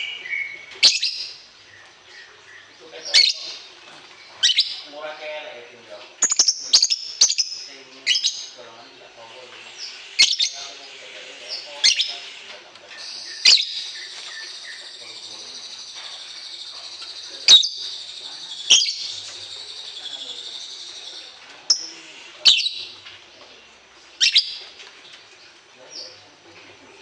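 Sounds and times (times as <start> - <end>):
sharp bird calls: 0.0 - 5.0, 6.2 - 26.3
songbirds twittering: 0.0 - 27.0.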